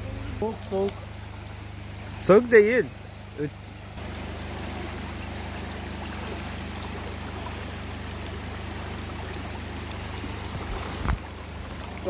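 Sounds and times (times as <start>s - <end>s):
water rushing over stones: 0.0s - 12.0s.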